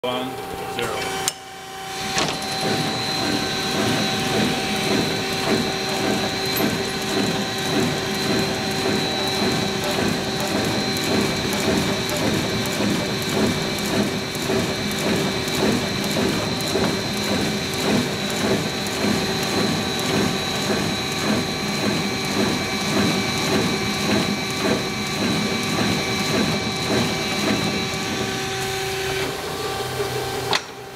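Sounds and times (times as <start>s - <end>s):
low machine hum: 0.0s - 30.9s
machine high whine: 0.0s - 30.9s
machine mechanical clatter: 2.1s - 28.8s.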